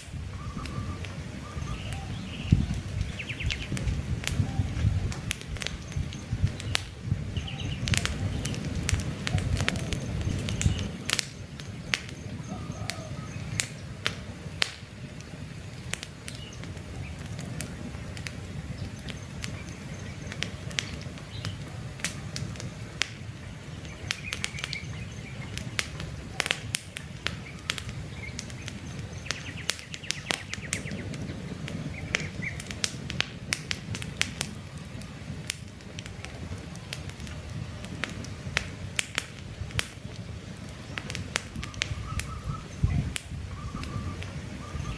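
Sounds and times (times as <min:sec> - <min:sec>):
campfire crackling and popping: 0:00.0 - 0:44.9
low rumble of flames: 0:00.0 - 0:44.9
small birds chirping: 0:00.3 - 0:33.0, 0:39.8 - 0:44.9.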